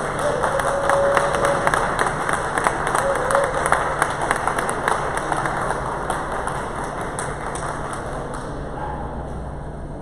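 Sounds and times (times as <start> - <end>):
spectators clapping: 0.0 - 8.8
indistinct crowd chatter: 0.0 - 10.0.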